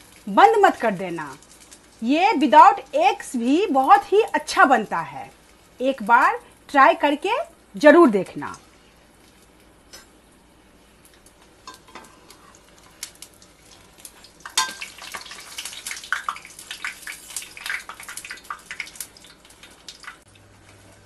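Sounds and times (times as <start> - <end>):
food sizzling in hot oil: 0.0 - 20.3.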